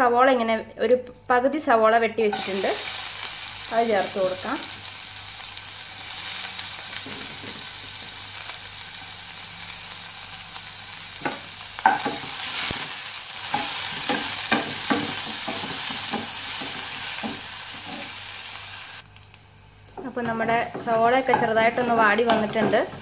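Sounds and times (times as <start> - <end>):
onion sizzling in hot oil: 2.3 - 23.0.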